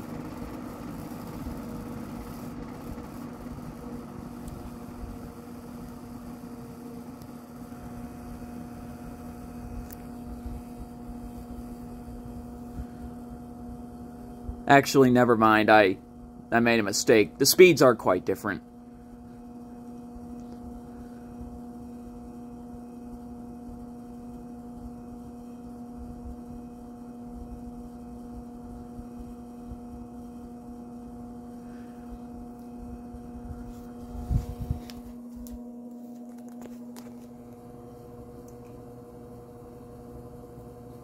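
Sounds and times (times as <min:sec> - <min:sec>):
box fan motor hum: 0:00.0 - 0:41.0.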